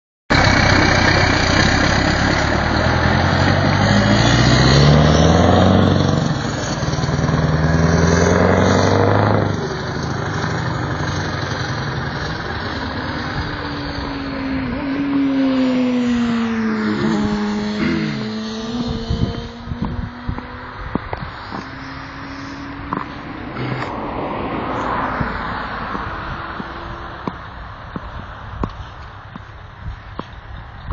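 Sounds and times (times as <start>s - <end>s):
truck engine pulling away: 0.3s - 29.0s.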